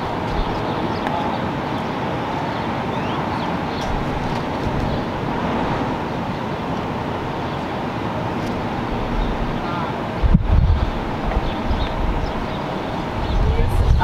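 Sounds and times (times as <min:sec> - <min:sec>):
traffic rumbling hiss: 0:00.0 - 0:14.0.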